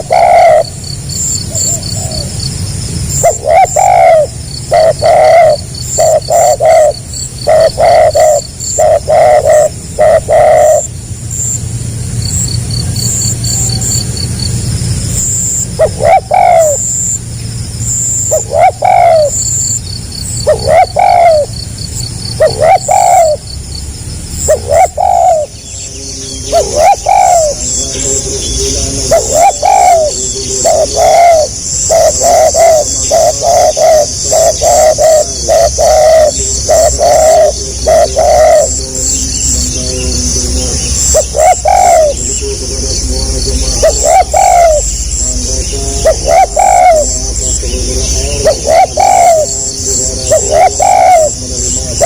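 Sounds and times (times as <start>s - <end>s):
dove cooing: 0.0s - 17.2s, 17.8s - 23.6s, 24.2s - 52.0s
faint twittering of small birds: 0.0s - 52.0s.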